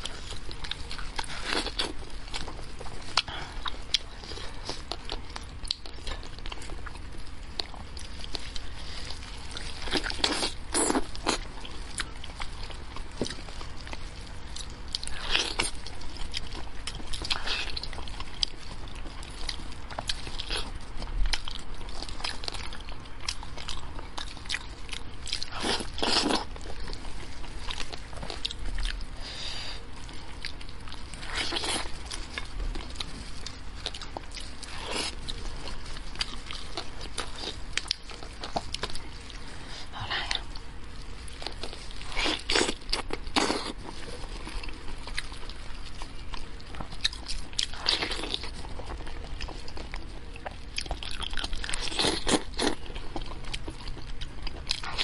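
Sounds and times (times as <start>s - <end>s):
chewing and biting meat: 0.0s - 39.5s, 40.1s - 55.0s.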